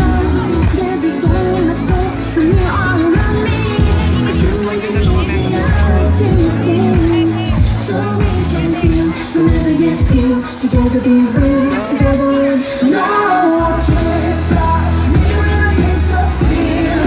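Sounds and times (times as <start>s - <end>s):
upbeat pop song over sound system: 0.0s - 17.0s.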